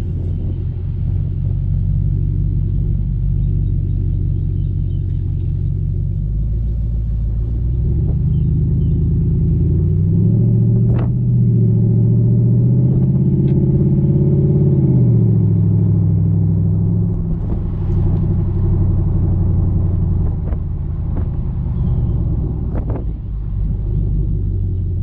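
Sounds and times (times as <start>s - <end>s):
car engine rumbling: 0.0s - 25.0s.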